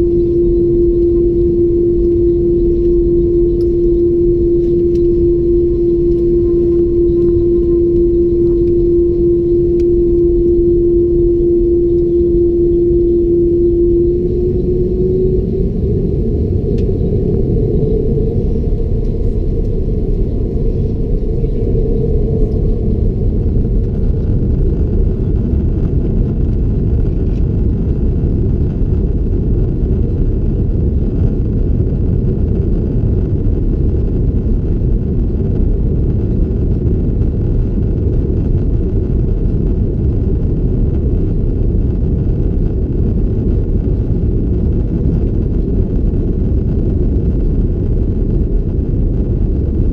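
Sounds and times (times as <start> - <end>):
jet engine cabin rumble: 0.0 - 49.9.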